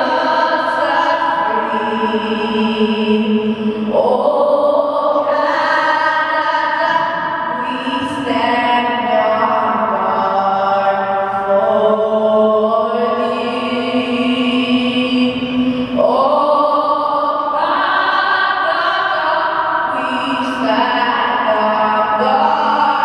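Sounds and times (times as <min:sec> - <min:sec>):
girl singing into a microphone: 0:00.0 - 0:23.0.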